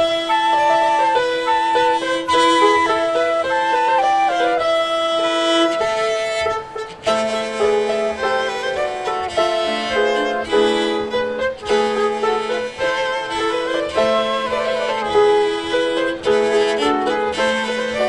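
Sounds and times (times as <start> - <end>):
chamber quartet playing: 0.0 - 18.0.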